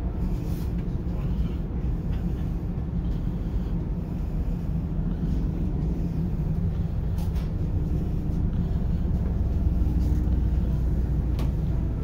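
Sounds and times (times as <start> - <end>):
faint even hum: 0.0 - 12.0
train railcar rumble: 0.0 - 12.0.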